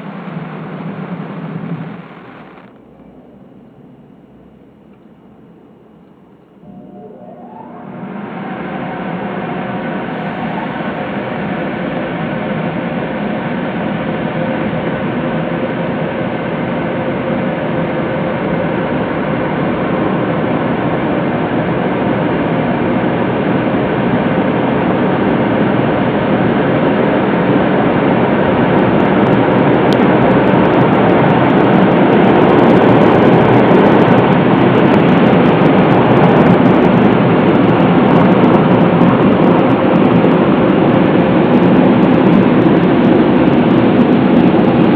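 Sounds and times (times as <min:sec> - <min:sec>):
car wash machine running: 0:00.0 - 0:44.9.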